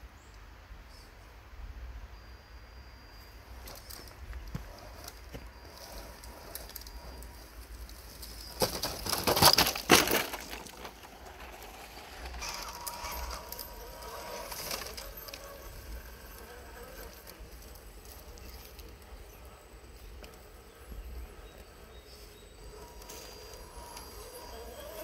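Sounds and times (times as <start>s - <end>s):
faint motor whine: 0.0s - 25.0s
rc car crunching over rocks: 3.5s - 25.0s.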